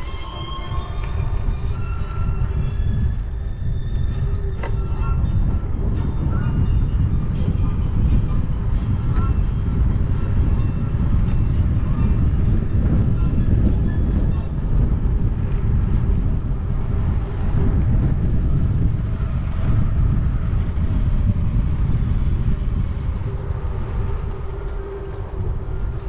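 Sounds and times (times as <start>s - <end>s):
bicycle tyres rolling on path: 0.0s - 26.0s
wind rushing over microphone: 0.0s - 26.0s.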